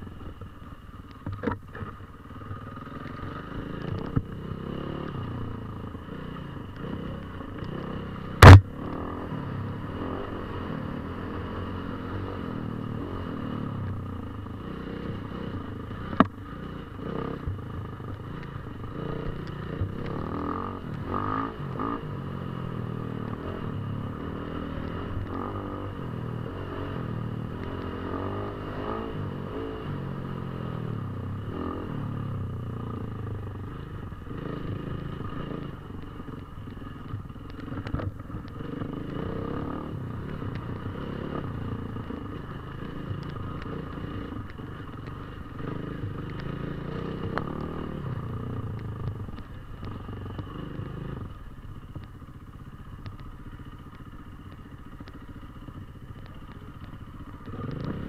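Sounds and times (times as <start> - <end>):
motorcycle engine revving: 1.3 - 58.0.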